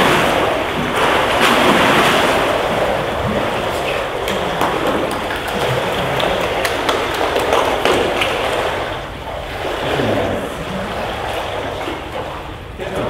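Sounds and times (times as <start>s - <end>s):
pool water splashing and lapping: 0.0s - 13.0s.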